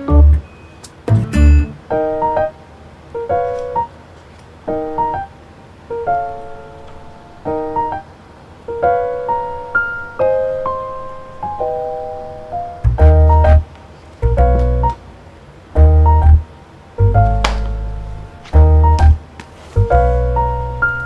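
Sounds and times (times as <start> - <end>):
light piano tune: 0.0 - 21.0.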